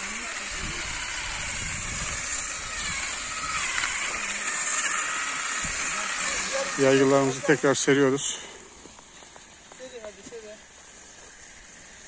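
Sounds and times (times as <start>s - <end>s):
electric olive harvester running: 0.0s - 12.0s.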